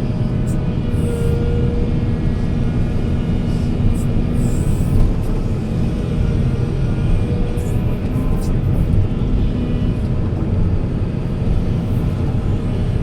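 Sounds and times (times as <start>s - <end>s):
diesel machinery engine running: 0.0s - 13.0s.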